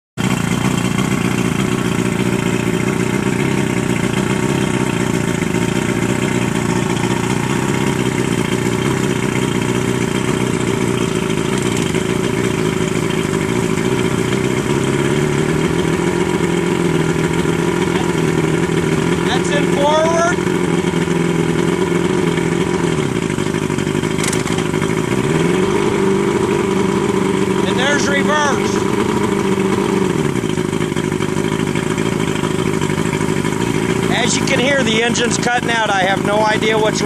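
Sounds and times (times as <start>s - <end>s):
outboard motor running: 0.2s - 37.0s.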